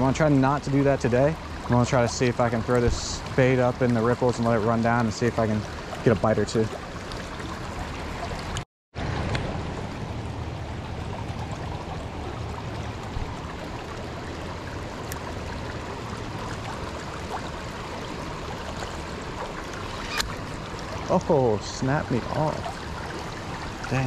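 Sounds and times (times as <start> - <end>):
creek water running over rocks: 0.0 - 24.0.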